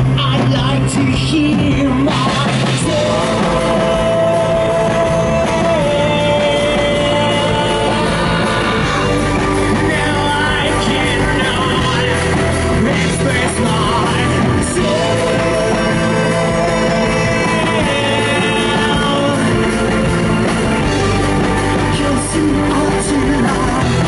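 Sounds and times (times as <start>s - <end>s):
rock band playing live: 0.0s - 24.0s
singer belting into microphone: 0.0s - 24.0s.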